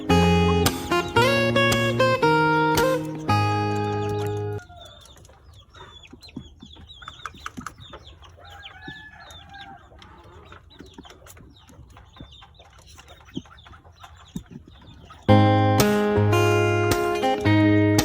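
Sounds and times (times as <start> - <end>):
chickens clucking and chirping: 0.0 - 17.4.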